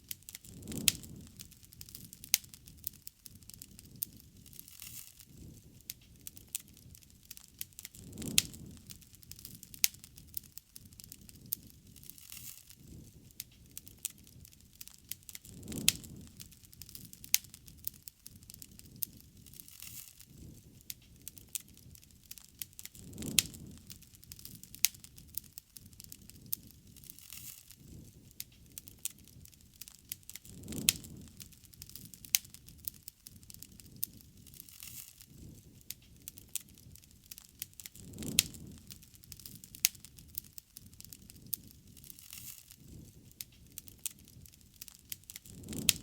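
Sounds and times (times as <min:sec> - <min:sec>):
bonfire crackling and popping: 0:00.0 - 0:46.0
rush of flame: 0:00.0 - 0:46.0.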